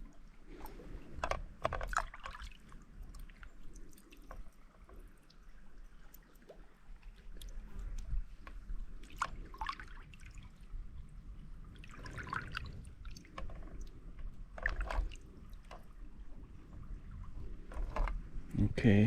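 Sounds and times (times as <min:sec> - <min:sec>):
water splashes and clicks: 0:00.0 - 0:11.0, 0:11.7 - 0:18.7
river water trickling: 0:00.0 - 0:19.0.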